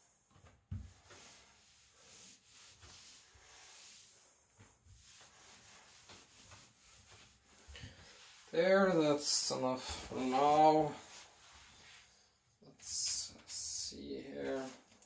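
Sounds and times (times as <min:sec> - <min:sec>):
faint rustling and handling: 0:00.0 - 0:15.0.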